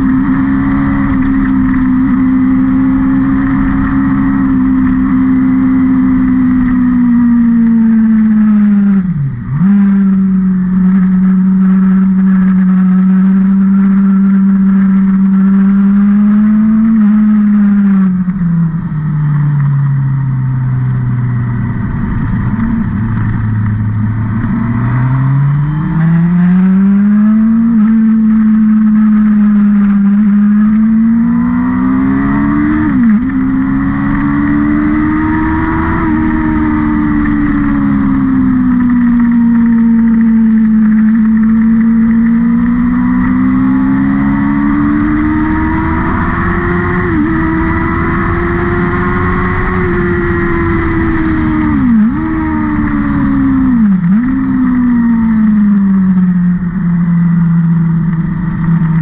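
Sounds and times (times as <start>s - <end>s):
race car engine revving: 0.0s - 18.4s, 21.1s - 56.8s.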